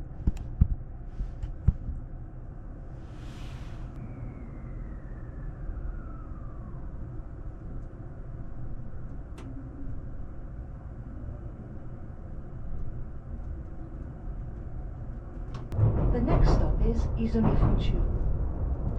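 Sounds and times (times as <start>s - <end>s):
electric train rumbling: 0.0s - 18.9s
faint falling whine: 0.0s - 18.9s.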